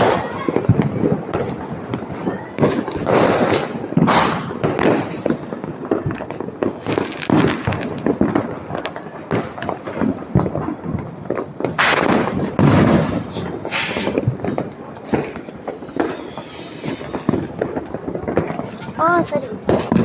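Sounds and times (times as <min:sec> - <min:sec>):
firecrackers banging and crackling: 0:00.0 - 0:20.0.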